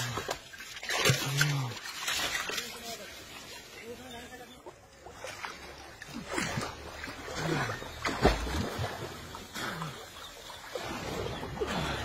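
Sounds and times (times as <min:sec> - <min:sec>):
pond water splashing: 0:00.0 - 0:12.0.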